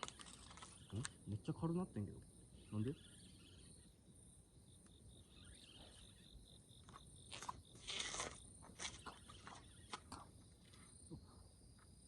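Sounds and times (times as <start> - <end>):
high-pitched insect trilling: 0.0 - 12.0.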